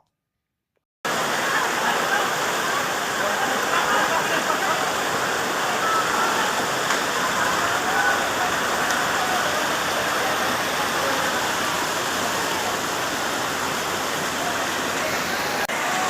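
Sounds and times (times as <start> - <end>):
water rushing: 1.1 - 16.0.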